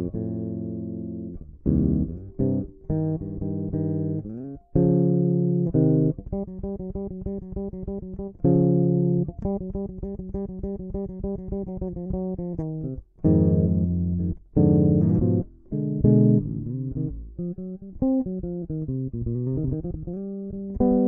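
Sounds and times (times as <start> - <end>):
plucked bass playing blues: 0.0 - 21.0.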